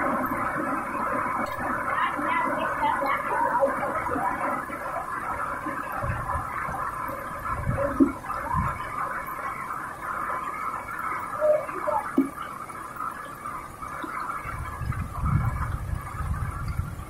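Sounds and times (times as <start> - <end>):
falling rain: 0.0 - 17.0
running water: 0.0 - 17.0.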